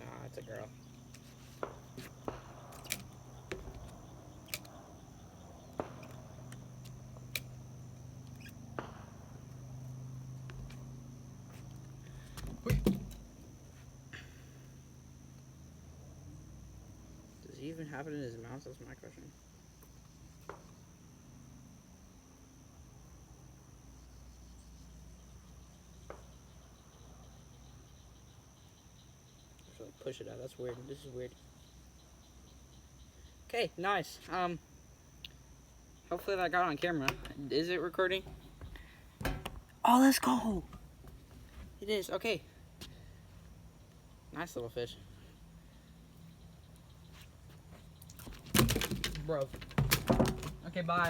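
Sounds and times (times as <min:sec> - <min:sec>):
crickets chirring: 0:00.0 - 0:51.0
high insect drone: 0:00.0 - 0:51.0.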